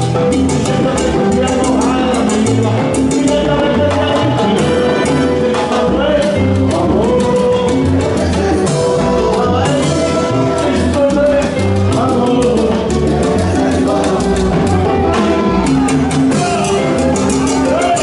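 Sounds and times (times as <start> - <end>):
man singing: 0.0 - 18.0
salsa band playing: 0.0 - 18.0.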